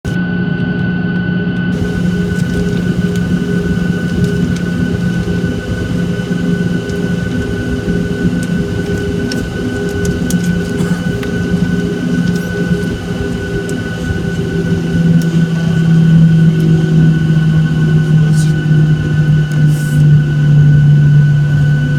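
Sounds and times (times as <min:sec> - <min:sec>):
jet engine high whine: 0:00.0 - 0:21.9
airliner cabin rumble: 0:01.7 - 0:21.9.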